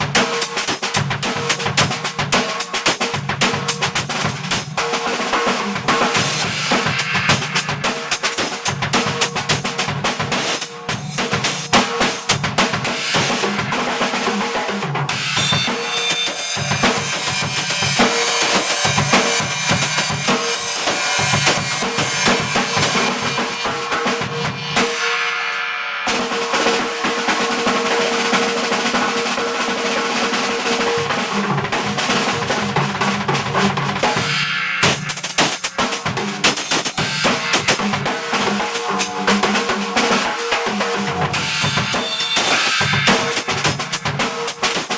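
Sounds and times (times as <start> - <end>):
bass drum and snare hits: 0.0 - 26.9, 31.0 - 44.9
cymbal wash: 0.0 - 32.9, 34.0 - 44.9.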